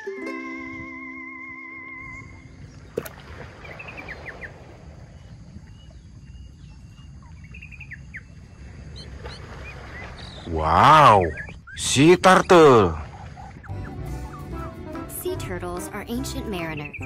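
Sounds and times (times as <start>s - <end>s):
birds chirping: 1.7s - 17.0s.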